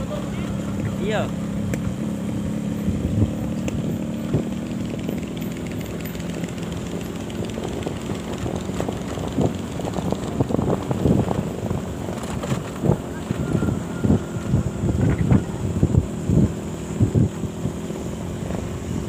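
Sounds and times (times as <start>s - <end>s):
small motorcycle engine running: 0.0s - 19.0s
wind rumbling on microphone: 1.6s - 19.0s.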